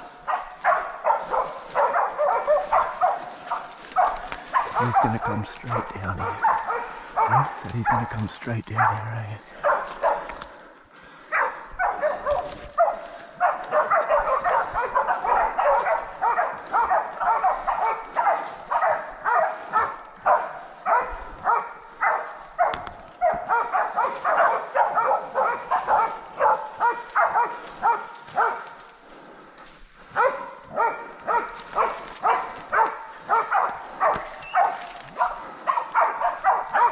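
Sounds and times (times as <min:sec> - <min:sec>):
dogs barking rapidly: 0:00.0 - 0:29.3, 0:30.0 - 0:36.9.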